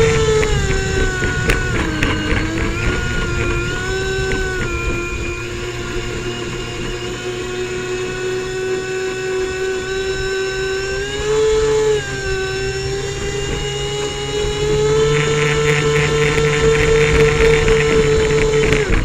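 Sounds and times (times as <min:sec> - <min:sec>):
airboat engine and propeller: 0:00.0 - 0:19.0.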